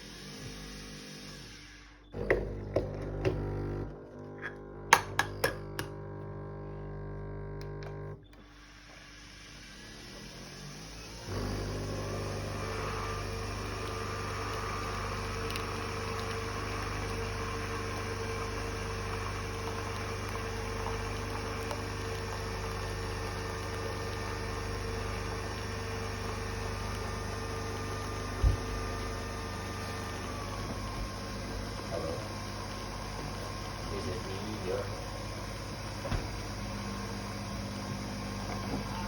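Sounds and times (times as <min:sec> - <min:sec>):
coffee machine pump humming: 0:02.2 - 0:09.0, 0:11.2 - 0:39.0.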